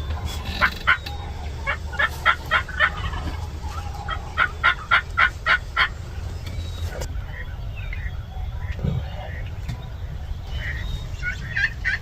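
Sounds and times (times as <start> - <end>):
wild turkeys calling: 0.0 - 12.0.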